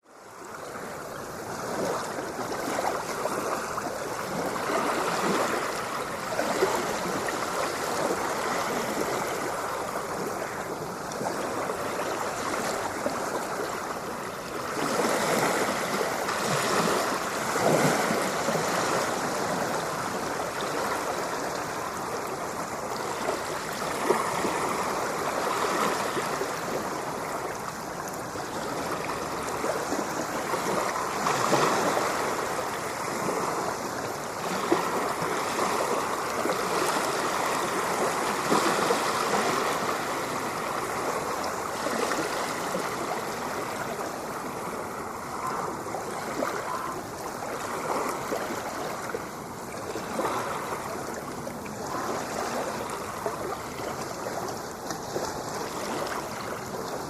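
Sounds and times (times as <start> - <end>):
ocean waves washing in: 0.0 - 57.0.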